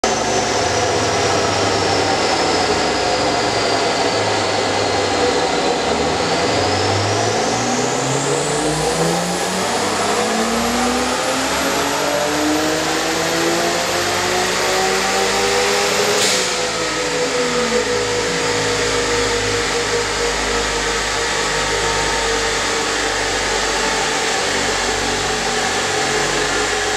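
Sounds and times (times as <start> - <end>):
car engine revving: 0.0 - 26.9
turbo whine: 0.0 - 26.9.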